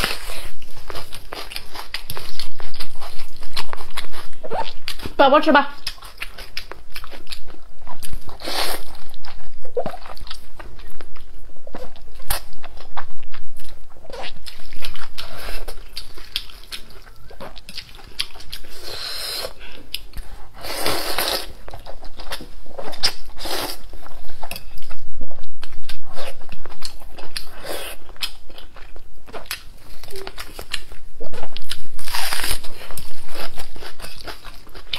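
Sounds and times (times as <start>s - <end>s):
wet chewing: 0.0s - 5.2s, 5.8s - 34.9s.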